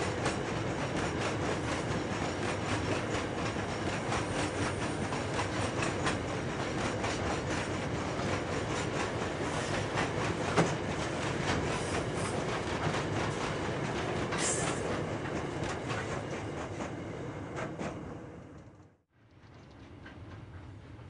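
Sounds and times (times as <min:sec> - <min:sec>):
wagon wheels rumbling on rail: 0:00.0 - 0:18.8.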